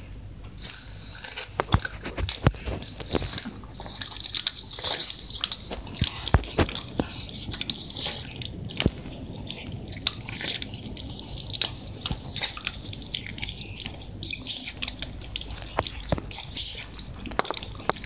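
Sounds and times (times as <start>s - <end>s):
dog gnawing chew stick: 0.5s - 18.0s.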